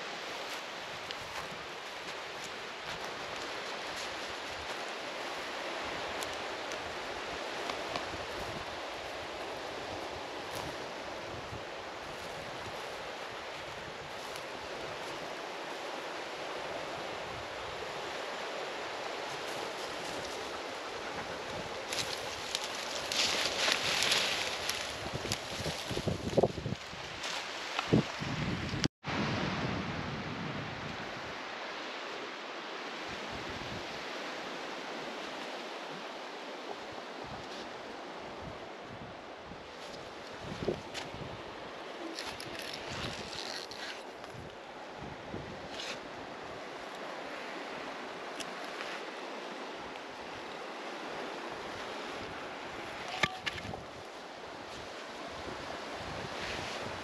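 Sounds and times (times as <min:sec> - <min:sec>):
small waves breaking on shore: 0:00.0 - 0:28.2, 0:29.1 - 0:57.0
wind: 0:00.0 - 0:57.0.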